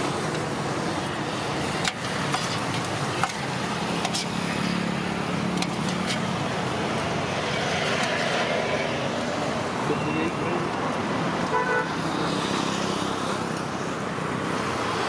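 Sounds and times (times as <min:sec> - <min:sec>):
roadside traffic noise: 0:00.0 - 0:15.0.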